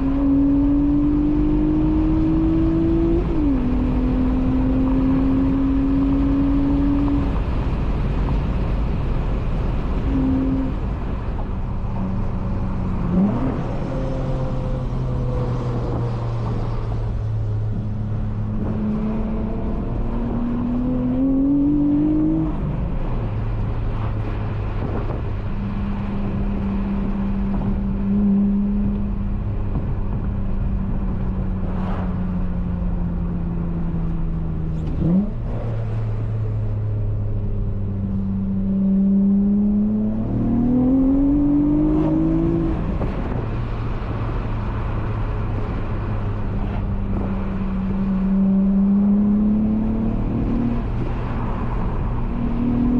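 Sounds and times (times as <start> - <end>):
car engine accelerating: 0.0 - 52.9.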